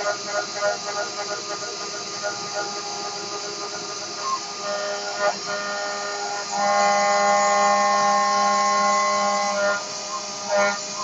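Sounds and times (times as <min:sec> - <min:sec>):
milling machine cutting metal: 0:00.0 - 0:11.0.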